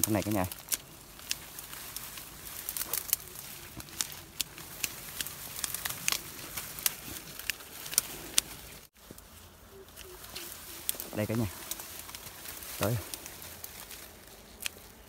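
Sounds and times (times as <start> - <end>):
pruning shears snipping: 0.0 - 8.8, 9.9 - 15.0
dry grass rustling and snapping: 0.0 - 15.0.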